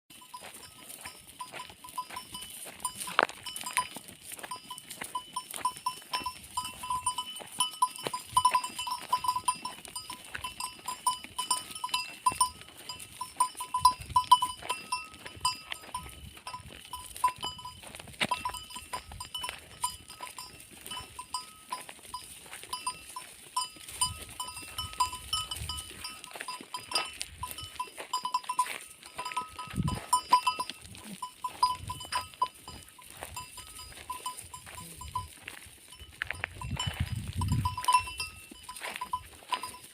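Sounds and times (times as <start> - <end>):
goat bells jangling: 0.1 - 39.9.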